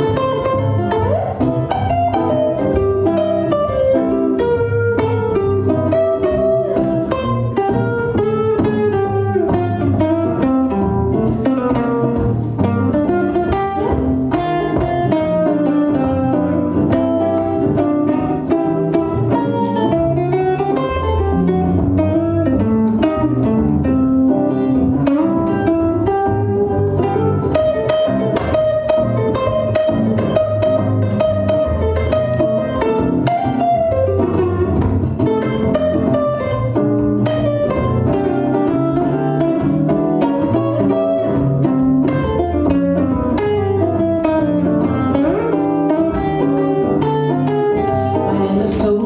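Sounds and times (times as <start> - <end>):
jazz guitar playing: 0.0 - 49.0.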